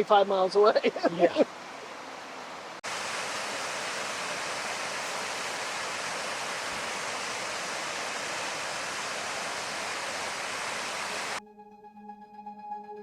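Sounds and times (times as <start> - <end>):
creek rushing: 0.0 - 11.4
waterfall rushing: 0.0 - 11.4.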